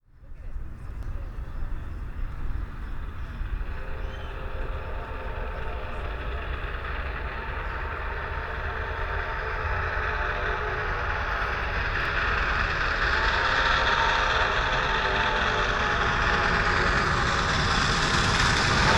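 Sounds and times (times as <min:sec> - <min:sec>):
steam locomotive rumble: 0:00.2 - 0:18.9
multi-toned hum: 0:03.6 - 0:18.9.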